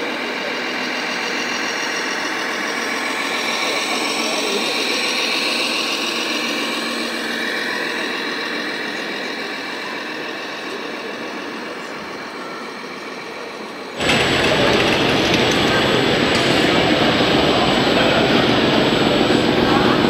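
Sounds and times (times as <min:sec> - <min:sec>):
crowd chatter: 0:00.0 - 0:20.0
simulated diesel engine: 0:00.0 - 0:20.0.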